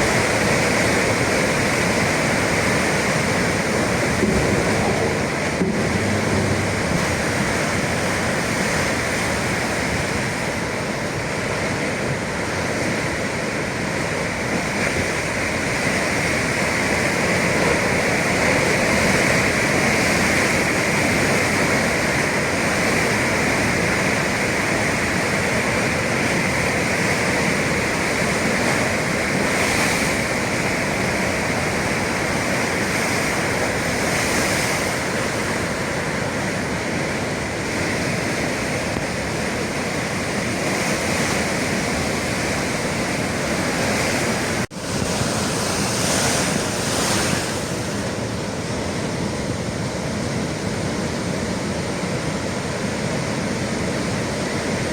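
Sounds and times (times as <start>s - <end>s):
waves breaking: 0.0s - 54.9s.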